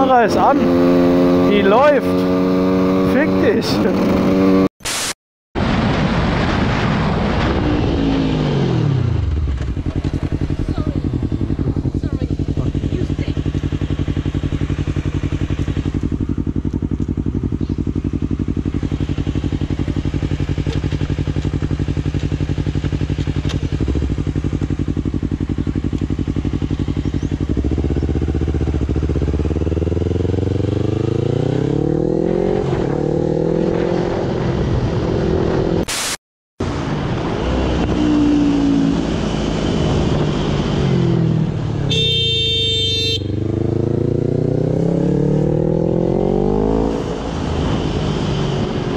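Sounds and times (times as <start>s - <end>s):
motorcycle engine revving: 0.0s - 4.7s, 7.6s - 35.9s, 37.2s - 48.9s.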